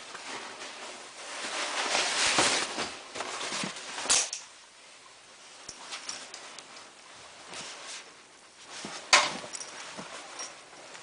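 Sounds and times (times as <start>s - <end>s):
sleeping bag fabric rustling: 0.0s - 4.2s, 5.4s - 11.0s.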